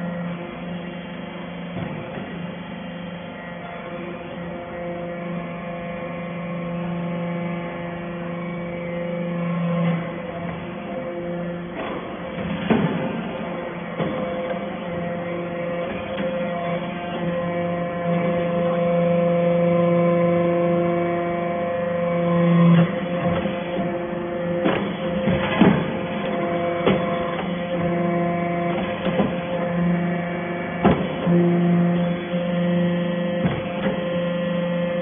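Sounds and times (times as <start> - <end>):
hydraulic power unit hum: 0.0 - 35.0.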